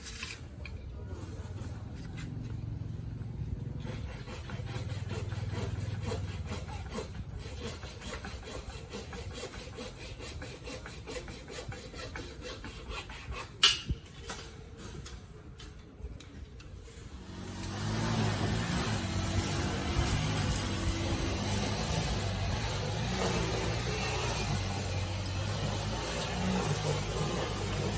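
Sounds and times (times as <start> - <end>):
rapid scraping strokes: 3.6 - 15.1, 16.8 - 27.9.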